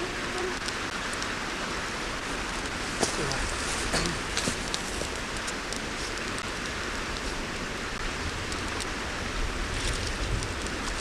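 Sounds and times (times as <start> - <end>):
campfire crackling: 0.0 - 11.0
mountain stream rushing: 0.0 - 11.0.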